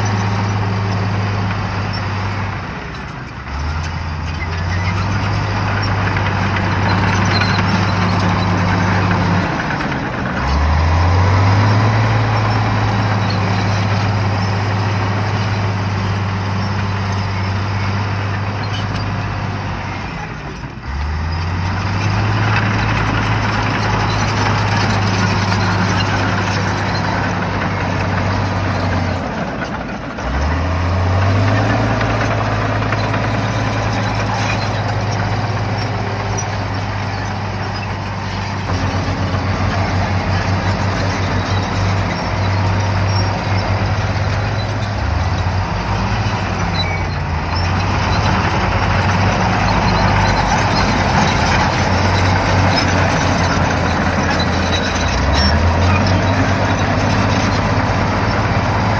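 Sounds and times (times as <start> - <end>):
bulldozer diesel engine under load: 0.0 - 58.9.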